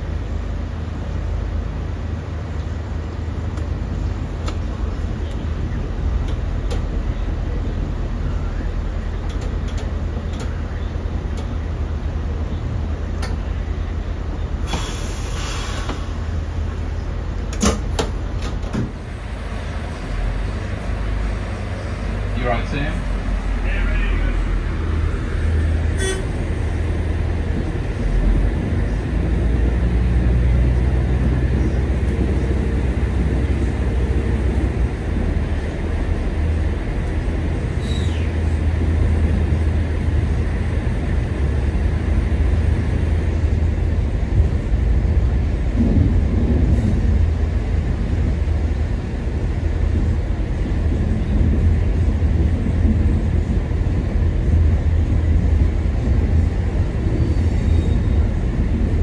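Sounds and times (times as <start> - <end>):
railcar engine and wheels rumbling: 0.0 - 59.0.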